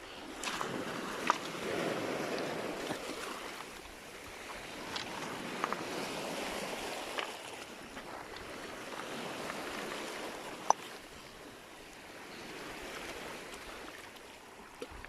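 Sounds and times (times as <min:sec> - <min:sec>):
sea water washing over stones: 0:00.0 - 0:15.0.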